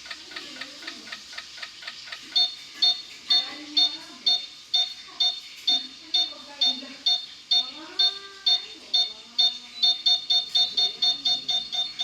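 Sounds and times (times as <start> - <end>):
electronic ticking: 0.0 - 12.0
repeating beep alarm: 2.4 - 12.0.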